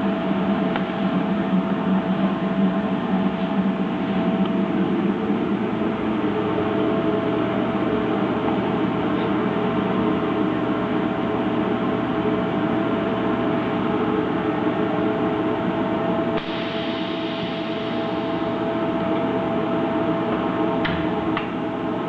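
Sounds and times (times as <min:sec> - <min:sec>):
welding machine hum and hiss: 0:00.0 - 0:22.0.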